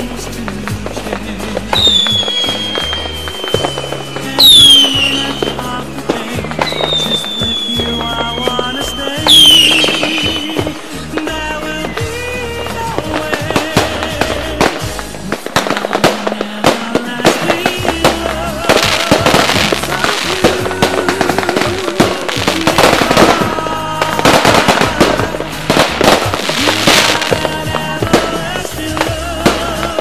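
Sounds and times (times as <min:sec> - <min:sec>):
fireworks bangs and crackling: 0:00.0 - 0:30.0
song with singer: 0:00.0 - 0:30.0.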